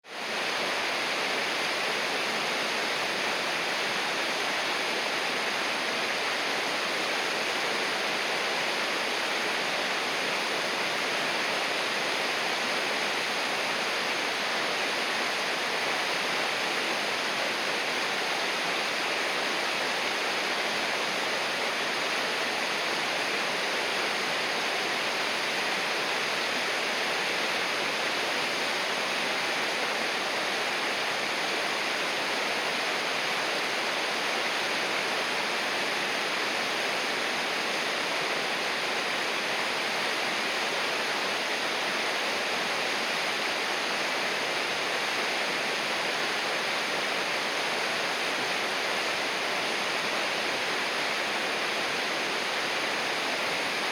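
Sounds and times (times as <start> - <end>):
river water rushing: 0.1 - 53.9.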